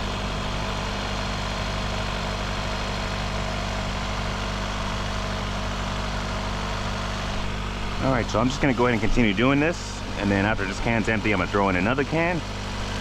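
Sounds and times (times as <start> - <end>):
car engine at raised revs: 0.0 - 13.0
radiator cooling fan: 0.0 - 13.0.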